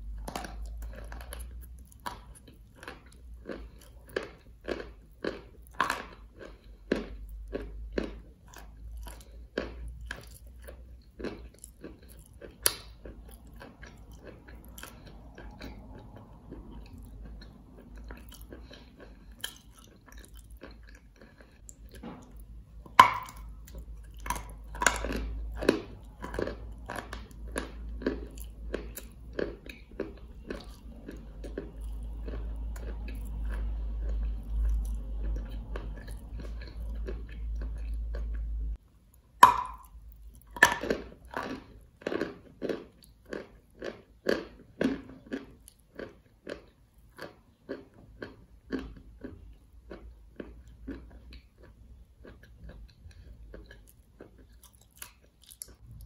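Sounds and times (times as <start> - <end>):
crunchy chewing: 0.0 - 38.6, 39.8 - 56.0.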